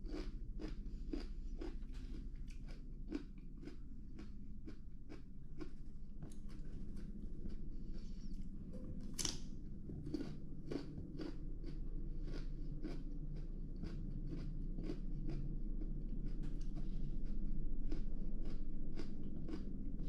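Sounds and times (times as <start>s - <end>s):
person chewing crunchy vegetables: 0.0s - 20.0s
steady low hum: 0.0s - 20.0s.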